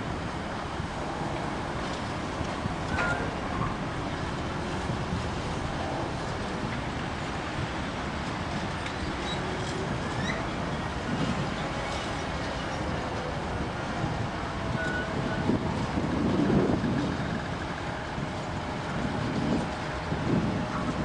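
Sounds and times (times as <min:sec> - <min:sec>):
distant diesel locomotive rumble: 0:00.0 - 0:21.0.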